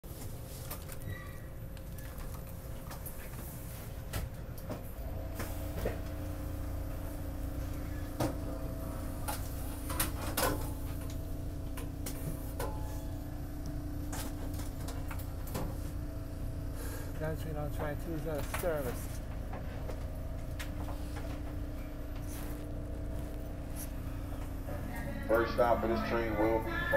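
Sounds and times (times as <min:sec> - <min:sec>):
subway car ventilation hum: 0:00.0 - 0:26.9.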